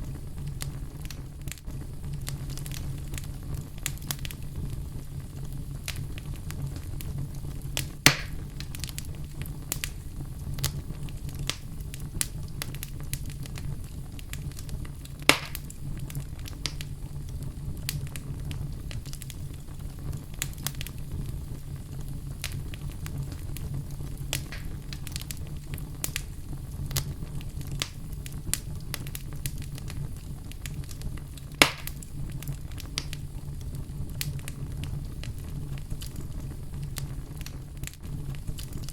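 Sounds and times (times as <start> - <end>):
fire rumbling and crackling: 0.0 - 38.9
loud fire pops: 0.0 - 38.9.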